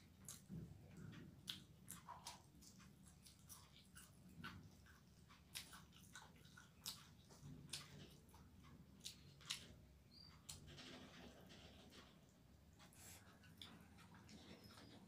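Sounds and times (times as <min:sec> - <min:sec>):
person chewing food: 0:00.0 - 0:10.6, 0:12.4 - 0:15.0.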